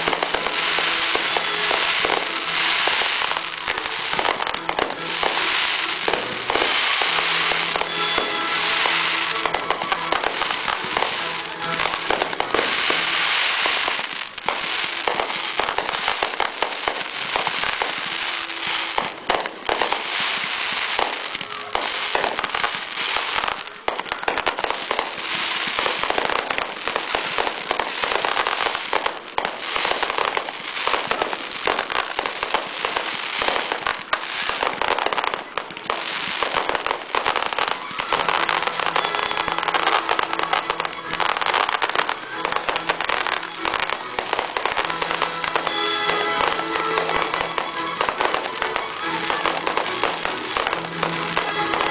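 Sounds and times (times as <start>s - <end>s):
fireworks barrage crackling: 0.0s - 51.9s.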